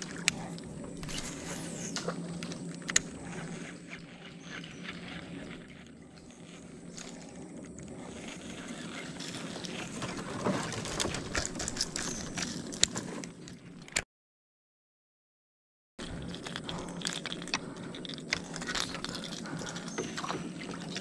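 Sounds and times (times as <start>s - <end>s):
low steady hum: 0.0s - 14.0s, 16.0s - 21.0s
reel and rod clicks: 0.0s - 14.0s, 16.0s - 21.0s.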